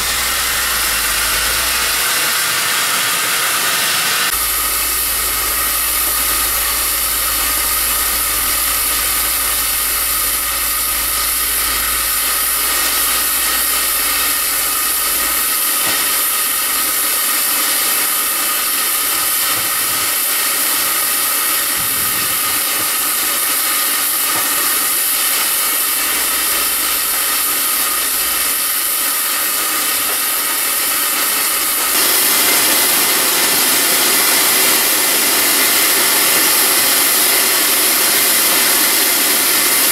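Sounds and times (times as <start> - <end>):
steam locomotive venting steam: 0.0 - 39.9.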